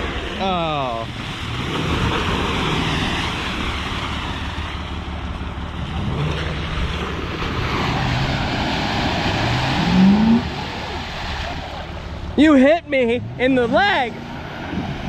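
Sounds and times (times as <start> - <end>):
diesel truck engine revving: 0.0 - 15.0
loud steady rushing noise: 0.0 - 15.0.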